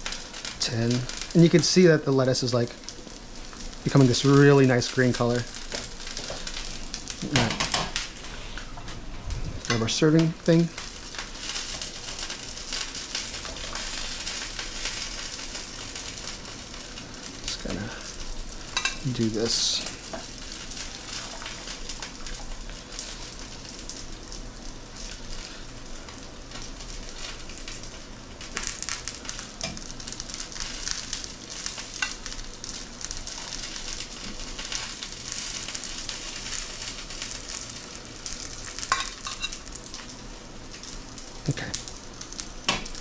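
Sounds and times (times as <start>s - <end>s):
dumplings sizzling in oil: 0.0s - 43.0s.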